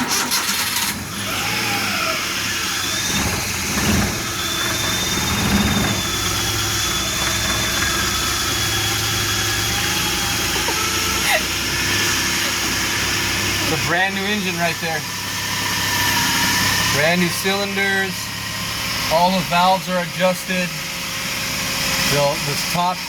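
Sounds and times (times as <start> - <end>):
engine revving: 0.0 - 23.0
engine starting and idling: 0.0 - 23.0.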